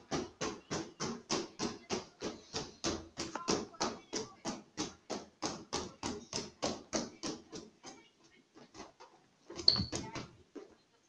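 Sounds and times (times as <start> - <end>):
punch balloon hollow taps: 0.0 - 10.7.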